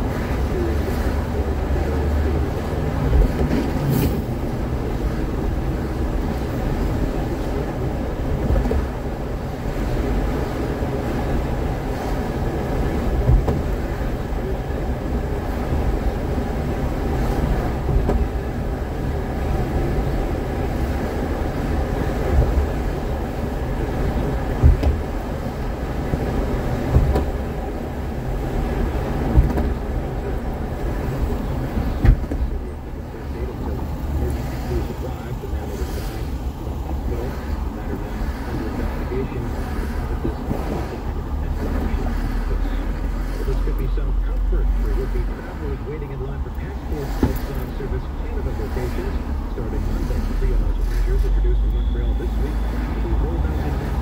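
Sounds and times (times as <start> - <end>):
car tyres and engine rumble: 0.0 - 54.0.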